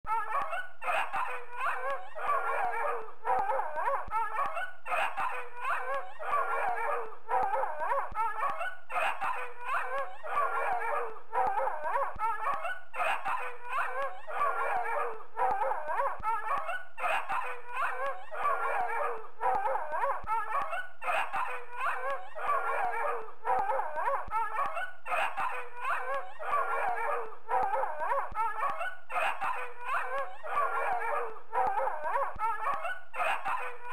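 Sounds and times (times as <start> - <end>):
dog barking: 0.1 - 33.9.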